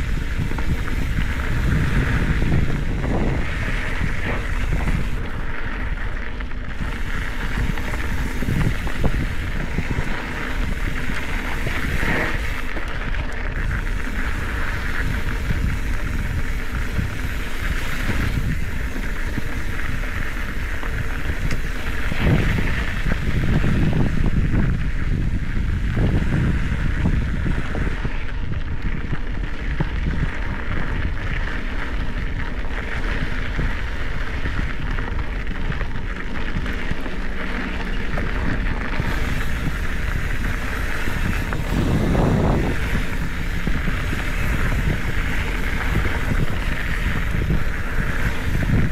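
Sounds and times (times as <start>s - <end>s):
bike tyres on dirt trail: 0.0s - 48.9s
wind buffeting microphone: 0.0s - 48.9s.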